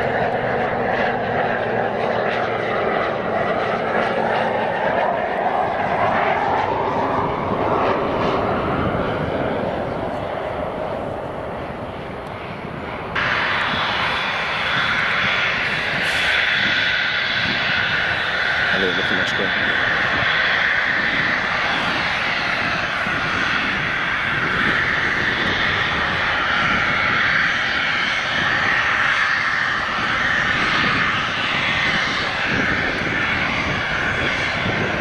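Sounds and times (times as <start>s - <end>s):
jet engines whining: 0.0s - 35.0s
turboprop plane landing: 0.0s - 35.0s.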